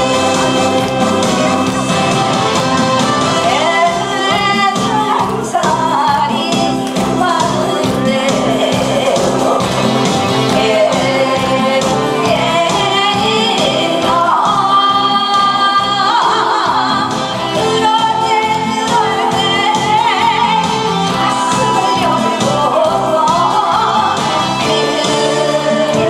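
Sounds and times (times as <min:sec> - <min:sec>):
amplified music with steady beat: 0:00.0 - 0:26.0
woman singing into a microphone: 0:03.4 - 0:26.0.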